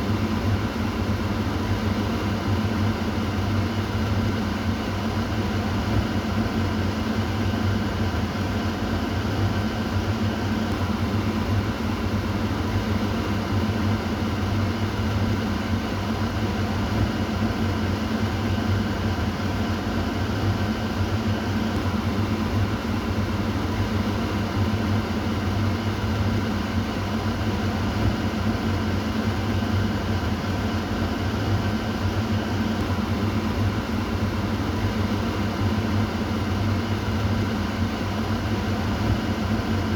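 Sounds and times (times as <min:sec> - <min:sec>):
exhaust fan running: 0:00.0 - 0:39.9.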